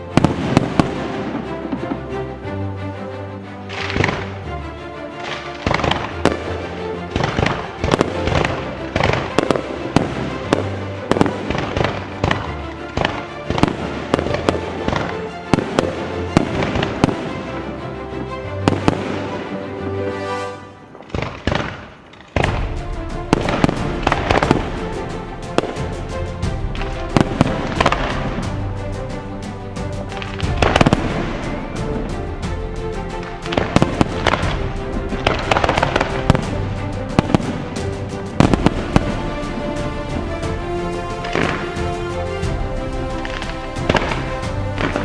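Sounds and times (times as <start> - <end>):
fireworks bursting and crackling: 0.0 - 2.2, 3.7 - 45.0
music: 0.0 - 45.0.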